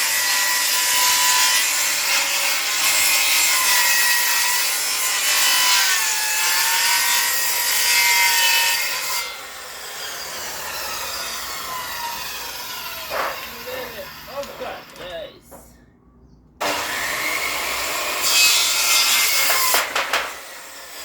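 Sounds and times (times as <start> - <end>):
circular saw cutting wood: 0.0 - 15.2, 16.6 - 21.0.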